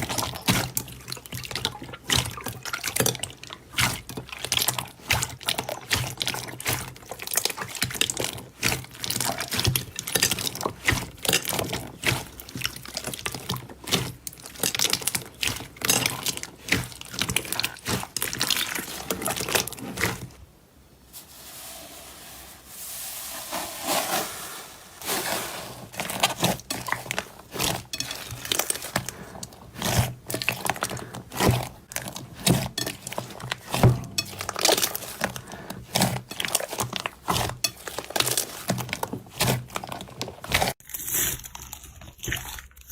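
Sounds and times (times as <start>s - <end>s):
slime squelching: 0.0s - 20.5s, 23.2s - 42.9s.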